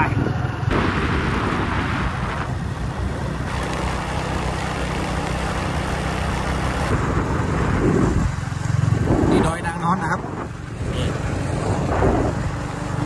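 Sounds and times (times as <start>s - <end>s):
small motorcycle running: 0.0s - 13.0s
wind and road noise: 0.0s - 13.0s.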